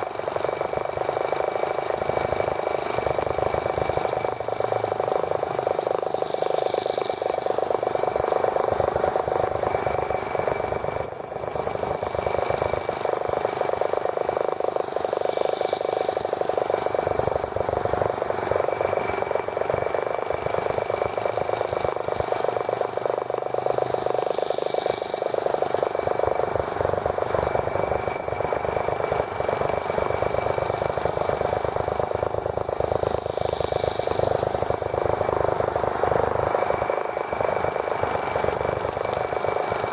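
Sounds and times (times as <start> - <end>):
small model engine running: 0.0 - 39.9.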